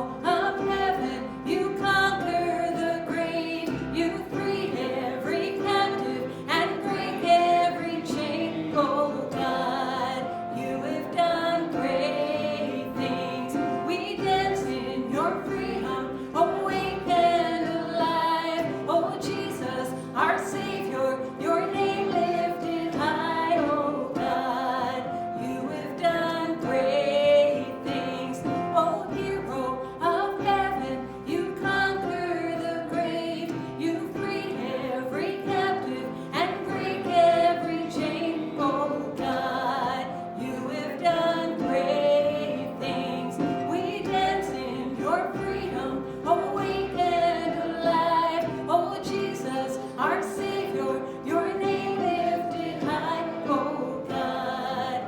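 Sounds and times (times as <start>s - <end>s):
voices singing a praise song: 0.0s - 55.0s.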